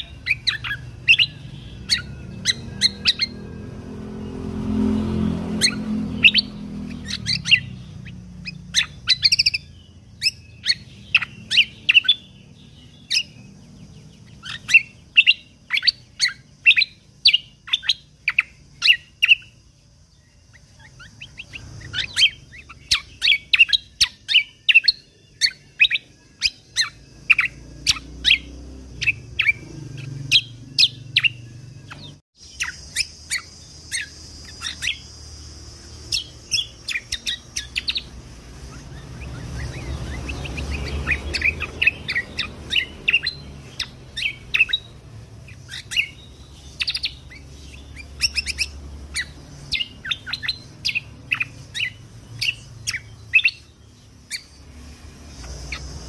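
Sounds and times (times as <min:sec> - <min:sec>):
songbird singing sharp shot notes: 0:00.0 - 0:56.0.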